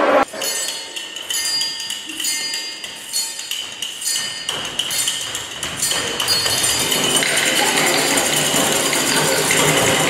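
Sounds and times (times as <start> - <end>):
high ringing: 0.0 - 10.0
hand percussion metallic taps: 0.3 - 10.0.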